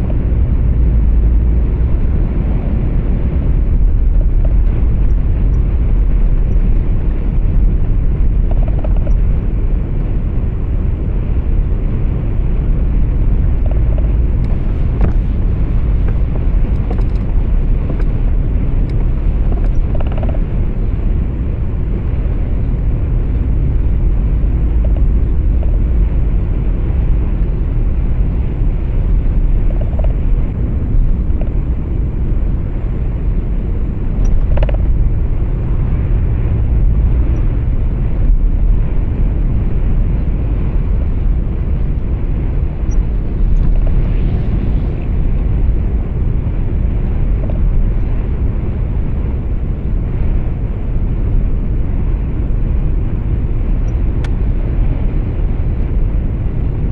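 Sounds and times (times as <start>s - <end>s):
truck engine and road rumble: 0.0s - 56.9s.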